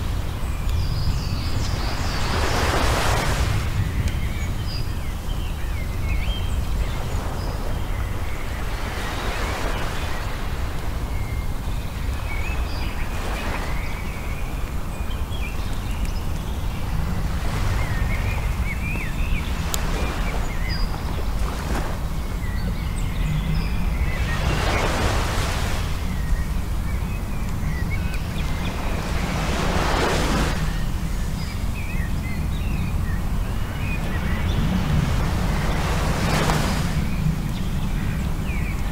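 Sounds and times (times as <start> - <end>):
low rumble of surf: 0.0 - 38.9
wind on microphone: 0.0 - 38.9.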